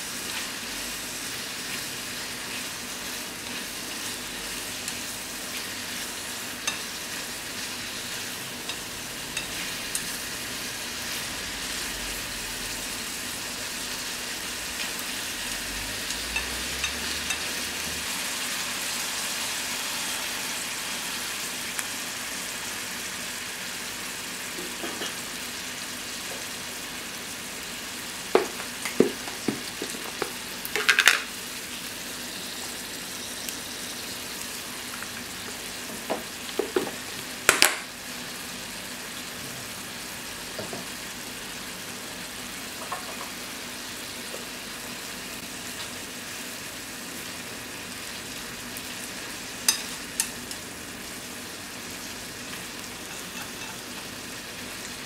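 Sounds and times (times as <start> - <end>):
beef and onions sizzling in skillet: 0.0 - 55.0.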